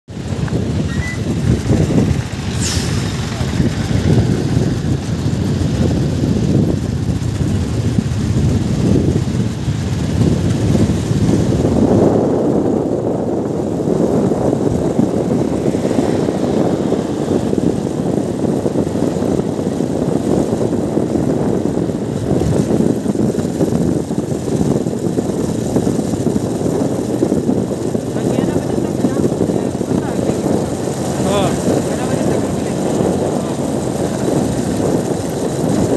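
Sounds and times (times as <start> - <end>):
heavy trucks rumbling: 0.1 - 35.9.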